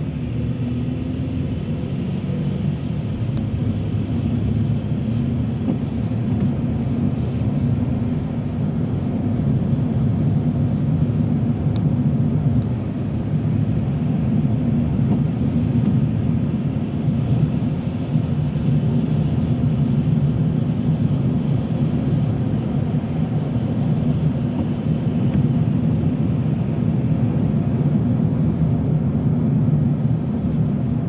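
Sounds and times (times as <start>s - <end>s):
car engine rumble: 0.0s - 31.0s
tyres on wet road: 0.0s - 31.0s.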